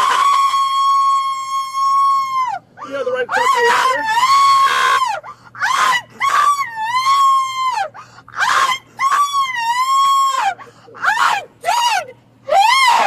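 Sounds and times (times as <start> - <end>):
woman screaming: 0.0 - 13.0.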